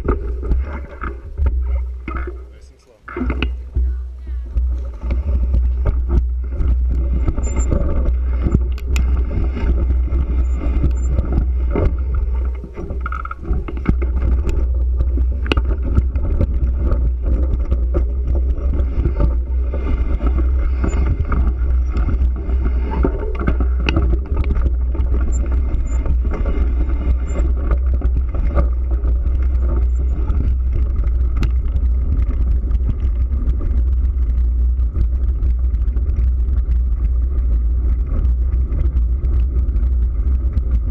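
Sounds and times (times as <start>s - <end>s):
clicks and rattles: 0.0s - 40.9s
wind rumble on microphone: 0.0s - 40.9s.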